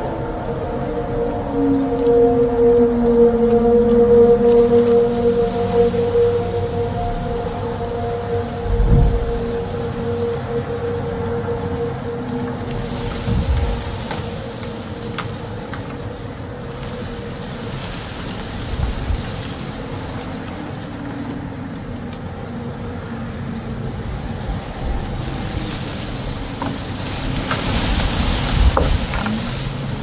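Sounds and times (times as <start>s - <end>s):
distant tornado siren: 0.0s - 30.0s
rain: 0.0s - 30.0s
storm wind gusting: 0.0s - 30.0s.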